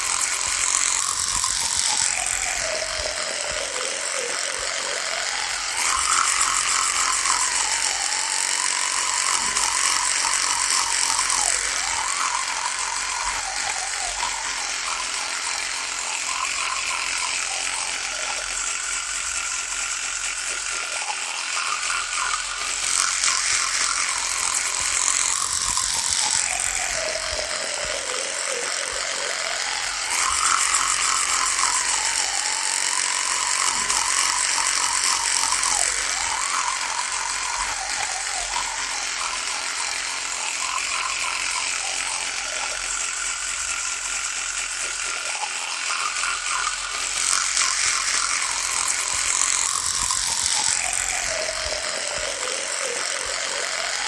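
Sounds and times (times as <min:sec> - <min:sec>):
electric toothbrush buzzing: 0:00.0 - 0:54.0.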